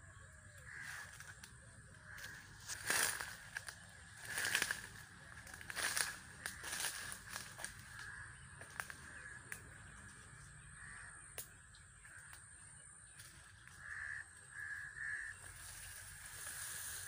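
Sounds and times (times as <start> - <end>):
bird calling: 0.0 - 17.0.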